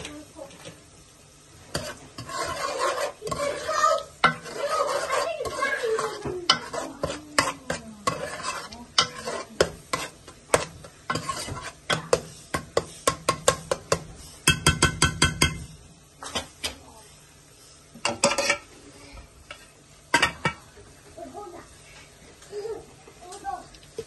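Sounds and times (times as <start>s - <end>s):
spoon stirring in a pot: 0.0s - 22.2s.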